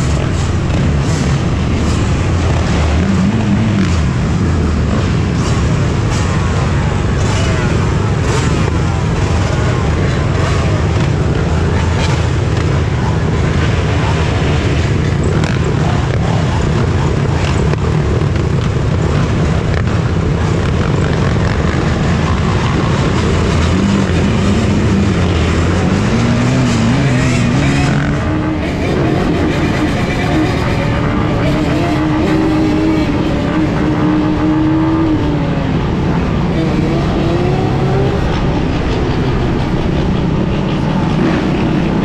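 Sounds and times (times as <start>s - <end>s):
dirt bike engines running: 0.0s - 42.0s.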